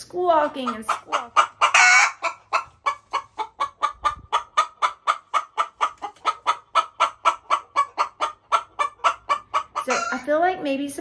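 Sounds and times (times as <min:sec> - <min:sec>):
hen squawking: 0:00.4 - 0:10.3.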